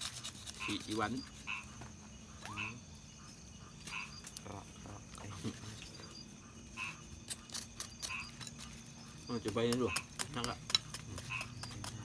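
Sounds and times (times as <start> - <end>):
frogs calling: 0.0 - 12.0
steady insect trill: 0.0 - 12.0.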